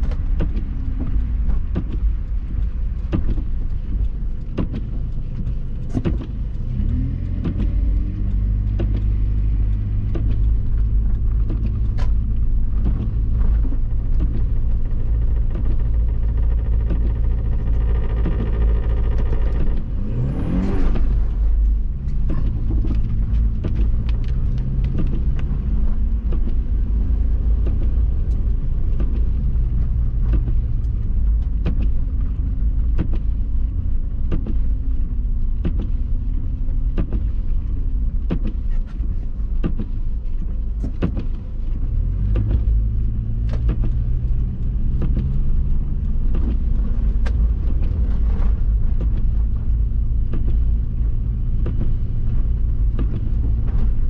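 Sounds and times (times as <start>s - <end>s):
car engine hum: 0.0s - 54.0s
road and tyre rumble: 0.0s - 54.0s
sharp clicks and knocks: 0.0s - 54.0s.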